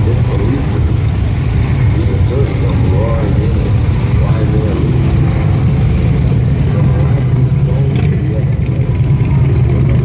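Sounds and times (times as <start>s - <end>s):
motorcycle engines running: 0.0s - 10.0s.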